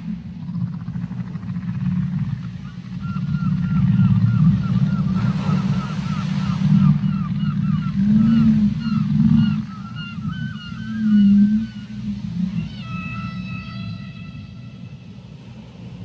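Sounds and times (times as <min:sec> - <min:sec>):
rush of water noise: 0:00.0 - 0:16.0
whale moans: 0:00.0 - 0:16.0.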